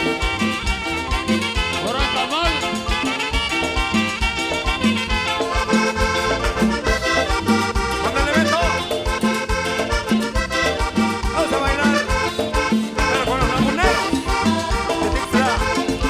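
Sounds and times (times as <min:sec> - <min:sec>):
live latin dance band playing: 0:00.0 - 0:16.0.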